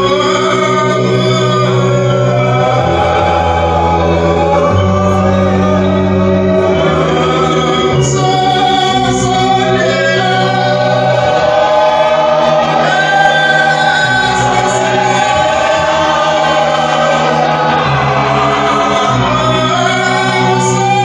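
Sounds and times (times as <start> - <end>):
choir singing a hymn: 0.1 - 21.0.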